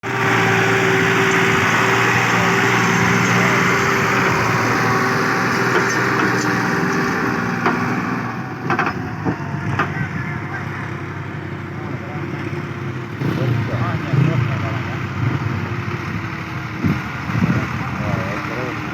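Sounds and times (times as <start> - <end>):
tractor engine running: 0.0 - 18.9.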